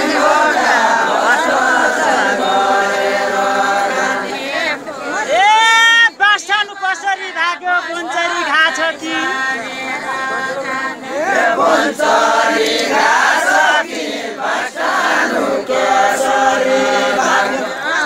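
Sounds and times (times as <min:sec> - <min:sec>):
group singing unaccompanied: 0:00.0 - 0:18.0.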